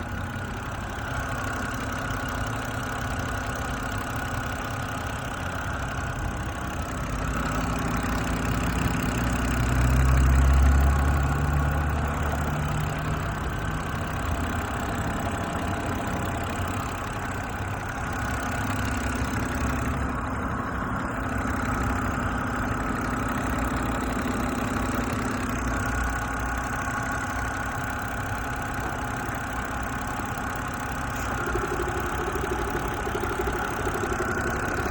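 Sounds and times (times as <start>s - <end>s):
car engine idling with a knock: 0.0s - 34.9s.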